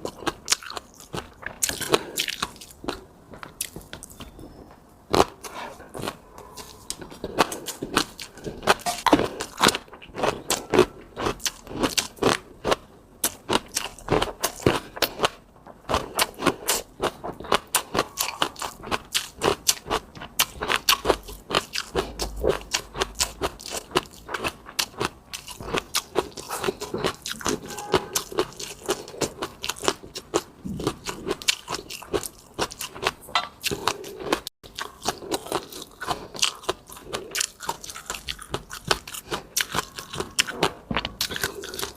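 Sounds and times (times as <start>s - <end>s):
food crunching: 0.0s - 4.4s, 5.1s - 41.9s
wet chewing and mouth clicks: 0.0s - 4.4s, 5.1s - 41.9s.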